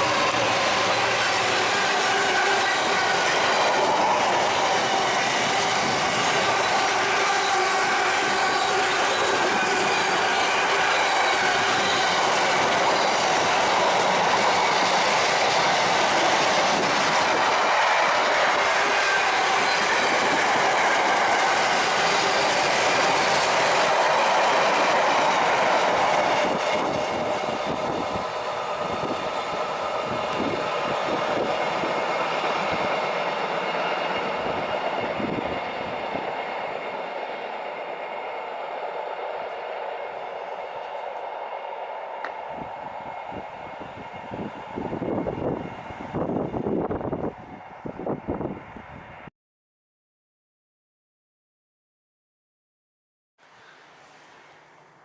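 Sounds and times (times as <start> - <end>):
train wheels rushing on rail: 0.0 - 49.3.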